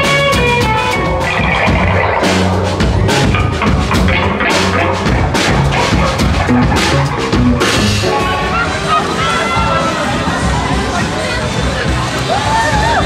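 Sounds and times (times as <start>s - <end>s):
drum kit beat: 0.0s - 11.1s
live rock band playing: 0.0s - 13.0s
low bass notes: 0.0s - 13.0s.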